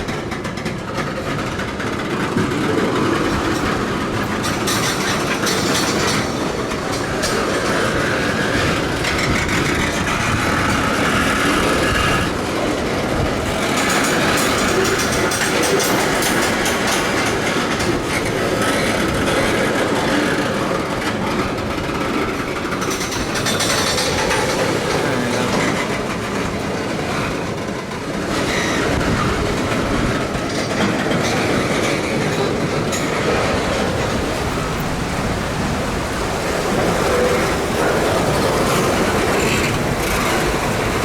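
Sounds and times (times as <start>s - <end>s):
train wheels clacking on rails: 0.0s - 41.0s.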